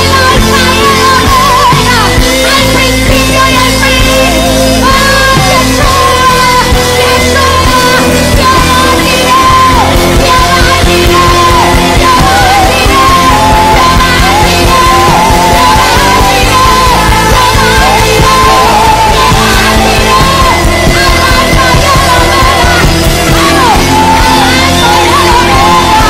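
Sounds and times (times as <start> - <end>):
live church band: 0.0 - 26.0
woman singing with vibrato: 0.0 - 26.0.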